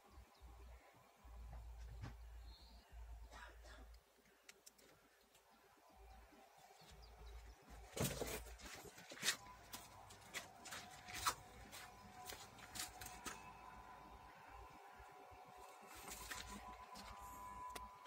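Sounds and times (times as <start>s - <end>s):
faint motor whine: 0.0s - 4.1s, 5.3s - 18.0s.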